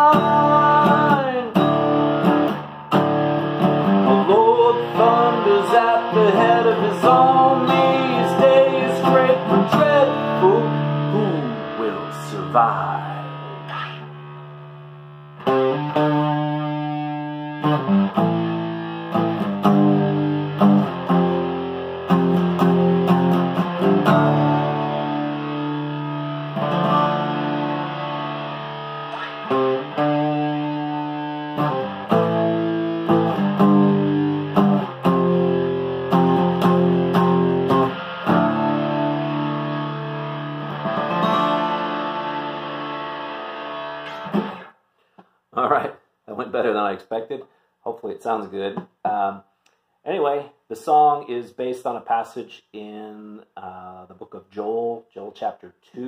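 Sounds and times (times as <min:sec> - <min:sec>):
distorted acoustic guitar chords: 0:00.0 - 0:45.9.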